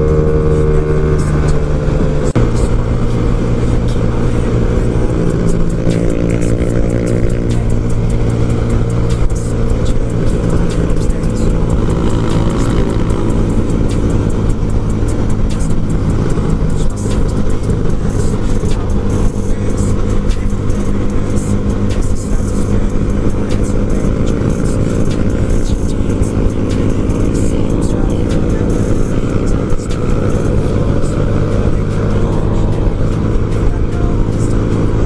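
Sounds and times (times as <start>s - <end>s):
moped engine at high revs: 0.0s - 35.0s.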